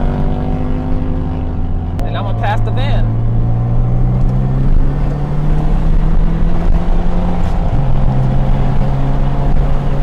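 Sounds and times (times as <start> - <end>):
car engine pulling under load: 0.0 - 10.0.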